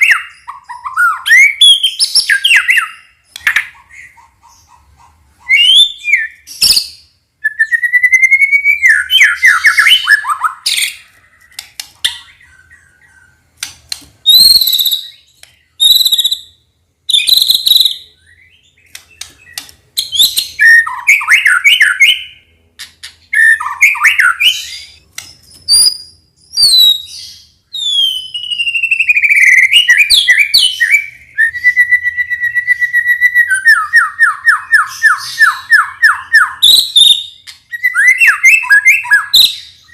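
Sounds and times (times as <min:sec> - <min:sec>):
bird singing whistled phrases: 0:00.0 - 0:03.2, 0:05.5 - 0:11.0, 0:14.3 - 0:22.4, 0:23.4 - 0:39.9.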